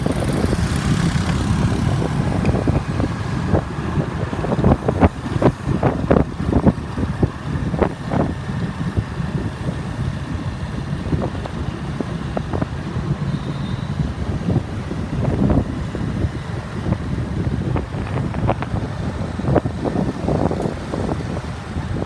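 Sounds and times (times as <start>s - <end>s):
motorbike engine and road rumble: 0.0s - 22.0s
wind buffeting microphone: 0.0s - 22.0s.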